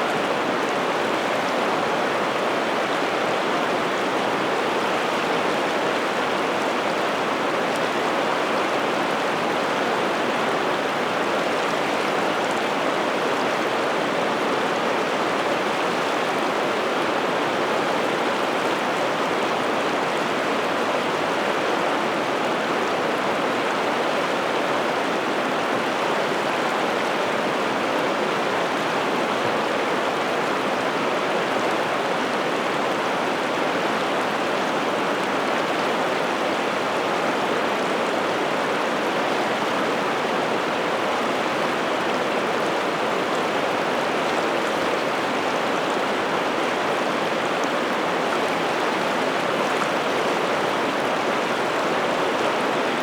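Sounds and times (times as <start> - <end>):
river rushing over rapids: 0.0 - 53.0.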